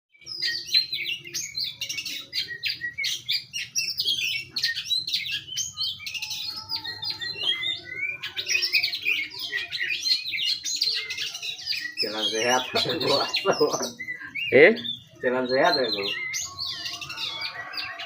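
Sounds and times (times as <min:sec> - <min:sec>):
songbird chirping and twittering: 0:00.1 - 0:18.0.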